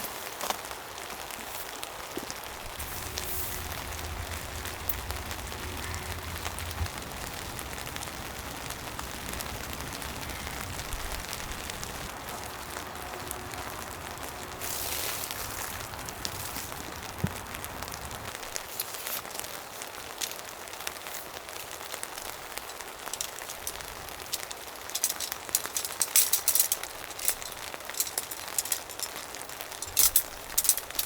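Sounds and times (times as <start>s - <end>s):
steady rain falling: 0.0s - 31.0s
raindrops ticking: 2.1s - 31.0s.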